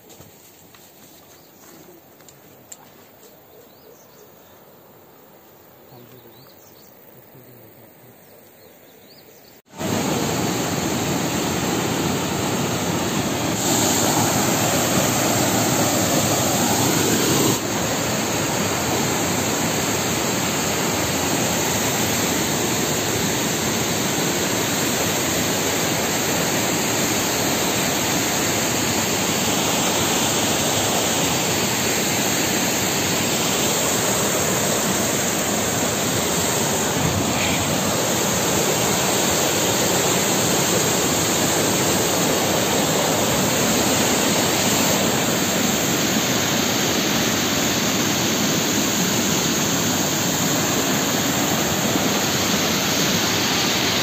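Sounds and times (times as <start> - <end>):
waterfall rushing: 9.7 - 54.0.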